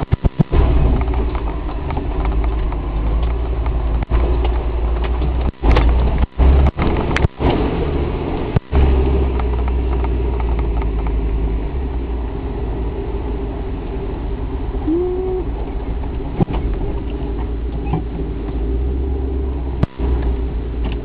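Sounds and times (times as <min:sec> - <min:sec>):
engine low rumble from inside cab: 0:00.0 - 0:21.0.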